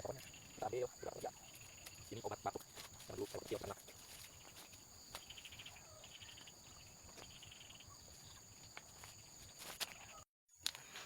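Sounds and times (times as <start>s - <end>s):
insects trilling: 0.0s - 10.2s.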